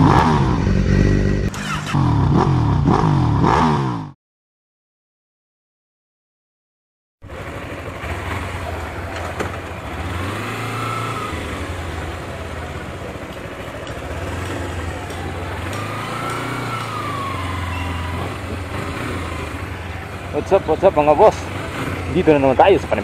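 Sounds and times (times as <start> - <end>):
motorcycle engine revving: 0.0 - 4.2, 7.2 - 23.0.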